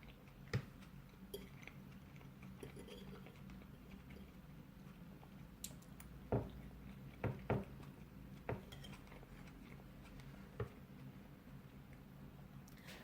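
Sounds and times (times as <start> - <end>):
faint low hum: 0.0 - 13.0
quiet chewing: 0.0 - 13.0.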